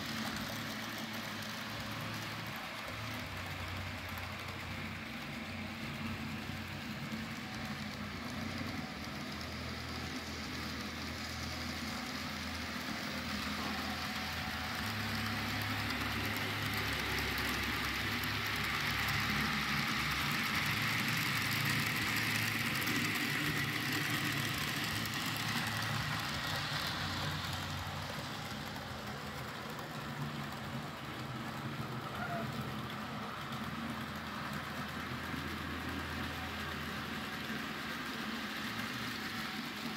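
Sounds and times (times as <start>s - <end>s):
model train whirring rumble: 0.0s - 39.9s.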